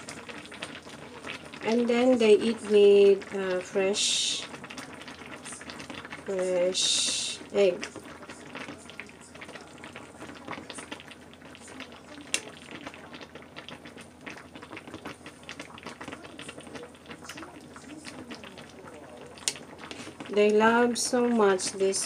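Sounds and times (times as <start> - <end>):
broth boiling in a pot: 0.0 - 22.0.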